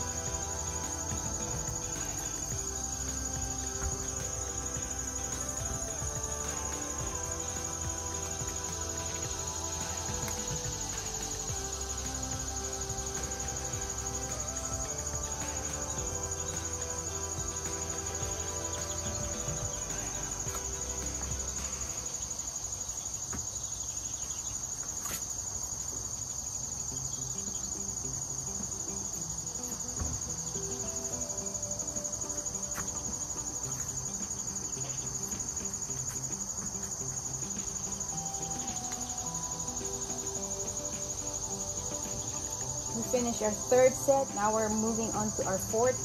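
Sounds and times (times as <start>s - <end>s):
soft music with held notes: 0.0s - 23.4s, 26.8s - 46.0s
insects chirring: 0.0s - 46.0s.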